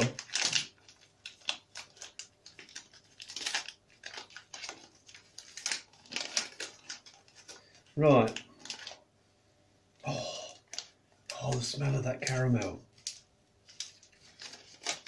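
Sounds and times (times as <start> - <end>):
wrapper crinkling and tearing: 0.0 - 9.1, 10.6 - 15.0.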